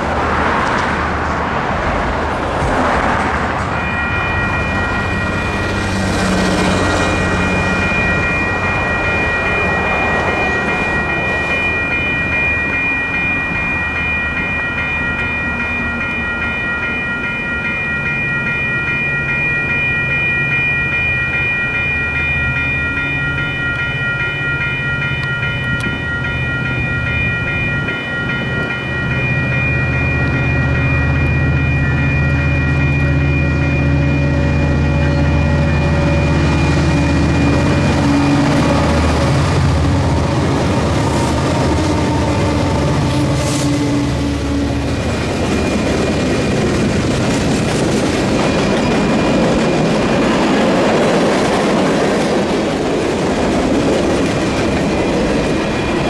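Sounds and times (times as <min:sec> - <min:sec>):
crossing warning bell ringing: 0:00.0 - 0:56.0
passing train rumble: 0:00.0 - 0:56.0.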